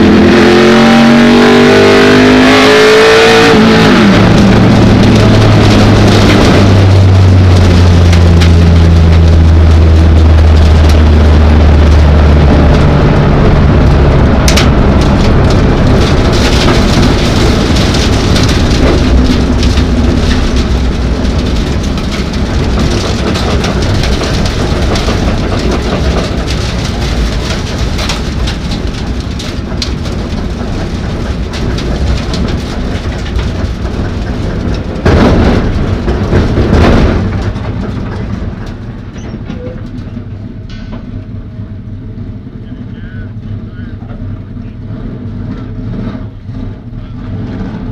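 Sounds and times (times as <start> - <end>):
car rattling: 0.0 - 47.9
race car engine from cockpit: 0.0 - 47.9.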